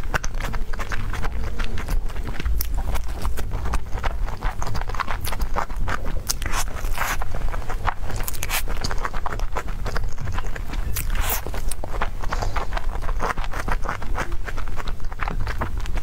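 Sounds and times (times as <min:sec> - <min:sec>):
chewing with wet mouth clicks: 0:00.0 - 0:16.0.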